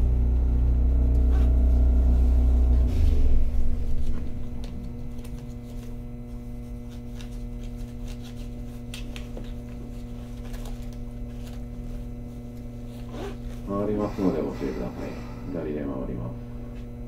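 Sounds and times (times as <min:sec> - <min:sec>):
electrical hum of tram equipment: 0:00.0 - 0:17.0.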